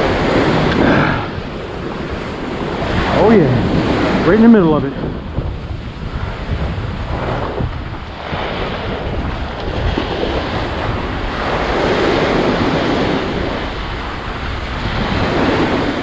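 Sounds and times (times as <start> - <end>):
ocean surf breaking on beach: 0.0 - 16.0
wind buffeting microphone: 0.0 - 16.0.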